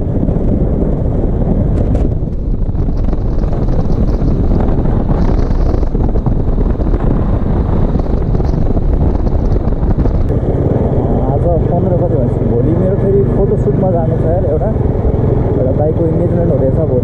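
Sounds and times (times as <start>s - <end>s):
faint vehicle noise: 0.0s - 17.0s
heavy wind buffeting microphone: 0.0s - 17.0s.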